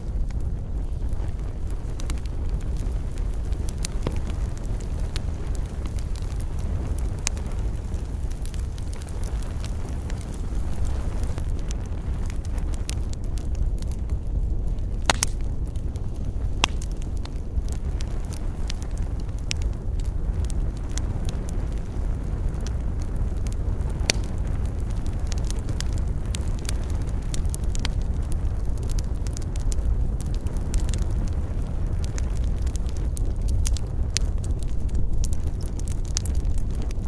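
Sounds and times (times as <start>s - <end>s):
low rumble: 0.0s - 37.0s
wood fire crackling: 0.0s - 37.0s.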